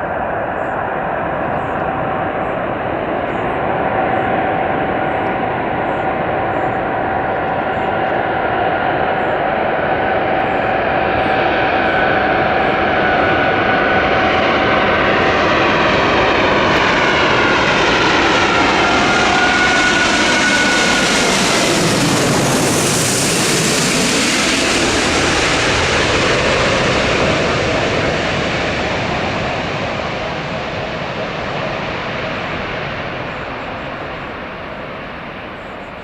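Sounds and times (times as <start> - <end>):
jet airliner passing: 0.0 - 36.0.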